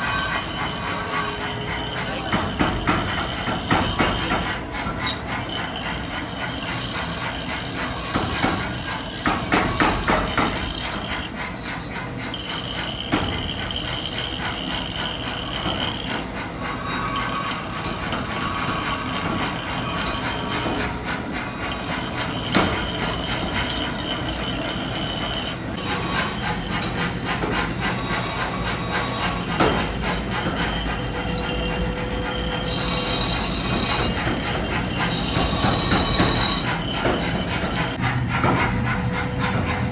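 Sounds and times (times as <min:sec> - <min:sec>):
heavy machinery running: 0:00.0 - 0:39.9
high-pitched metallic squealing: 0:00.0 - 0:39.9.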